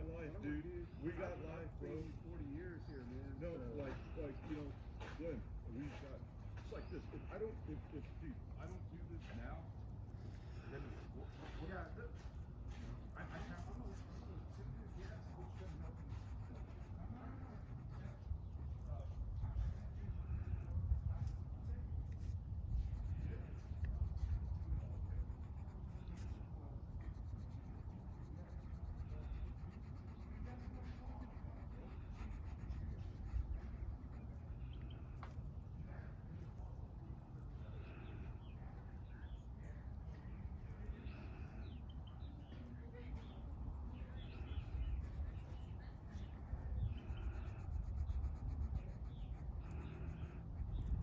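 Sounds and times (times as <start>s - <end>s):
coloring strokes on paper: 0.0s - 9.6s, 10.6s - 35.6s, 44.0s - 51.0s
low outdoor rumble: 0.0s - 51.0s.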